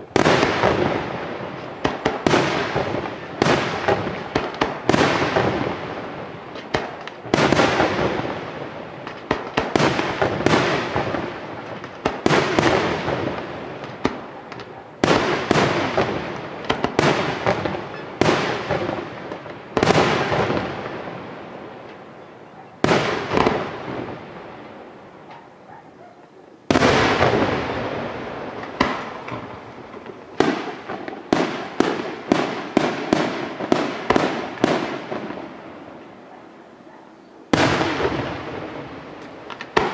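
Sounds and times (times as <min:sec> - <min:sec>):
firework shells bursting with echo: 0:00.0 - 0:25.4, 0:26.7 - 0:36.1, 0:37.5 - 0:39.9.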